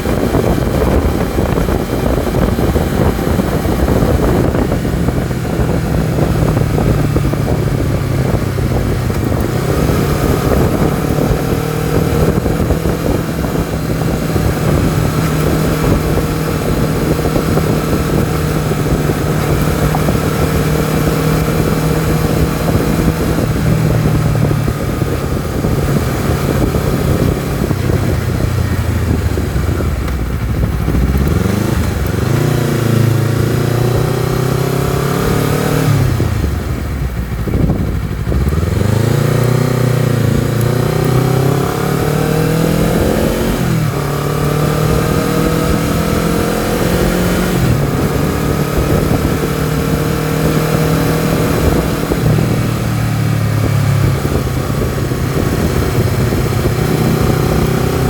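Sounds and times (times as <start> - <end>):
motorcycle engine running: 0.0 - 58.0
wind rush: 0.0 - 58.0.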